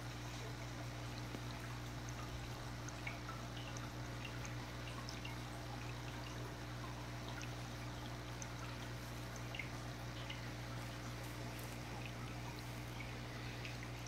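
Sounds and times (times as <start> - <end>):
aquarium water bubbling: 0.0 - 14.0
steady low hum: 0.0 - 14.0.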